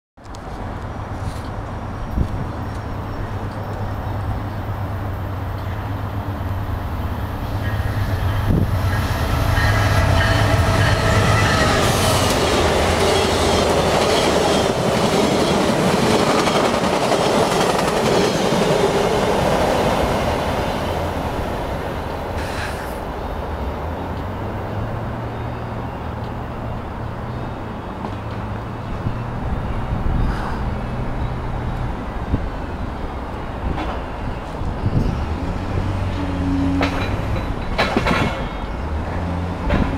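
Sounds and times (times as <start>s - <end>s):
passenger train passing at speed: 0.3s - 39.9s.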